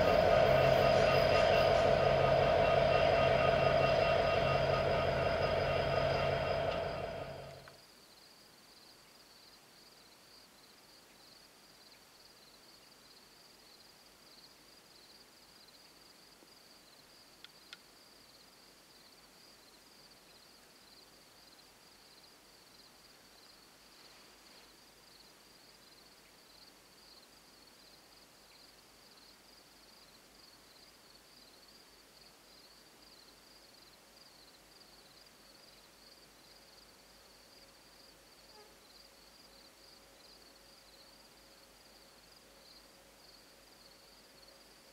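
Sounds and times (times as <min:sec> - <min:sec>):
faint insects chirring: 0:00.0 - 0:44.9.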